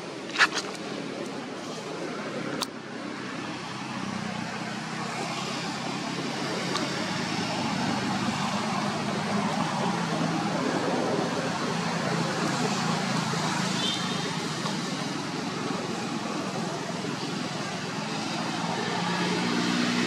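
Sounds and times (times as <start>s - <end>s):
rushing noise with low hum: 0.0s - 20.0s.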